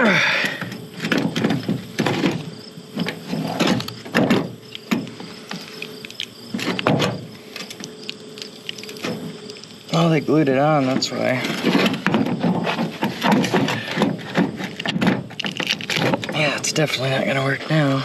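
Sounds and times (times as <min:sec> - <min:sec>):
hard parts scraping and clicking: 0:00.4 - 0:09.8, 0:10.8 - 0:17.8.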